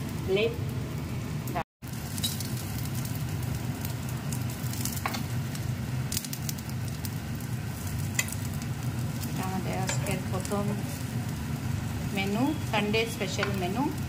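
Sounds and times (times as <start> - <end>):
bread frying in oil: 0.0 - 14.0.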